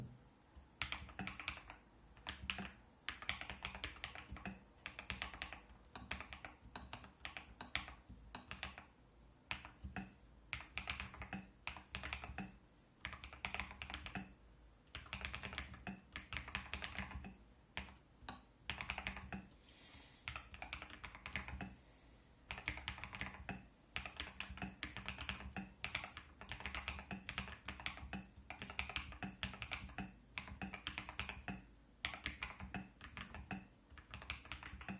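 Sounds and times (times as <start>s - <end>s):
typing on mechanical keyboard: 0.8s - 8.9s, 9.5s - 14.3s, 14.9s - 19.5s, 20.3s - 21.7s, 22.5s - 34.9s.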